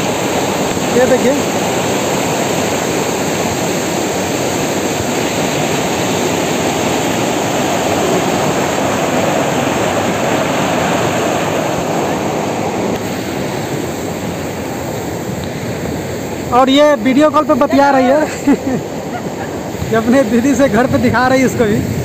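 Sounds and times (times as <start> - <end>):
waterfall rushing through rock channel: 0.0 - 22.0.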